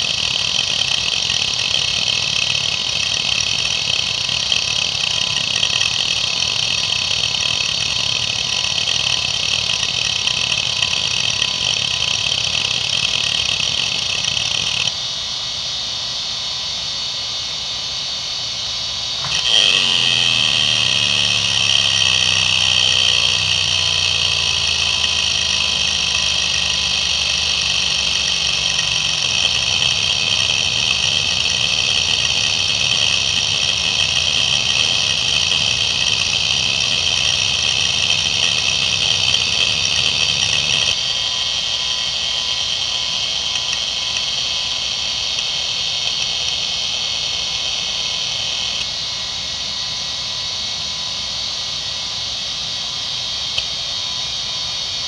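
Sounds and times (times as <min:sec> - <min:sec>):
hard drive seeking chatter: 0:00.0 - 0:15.0, 0:18.7 - 0:49.0
hard drive running: 0:00.0 - 0:55.0.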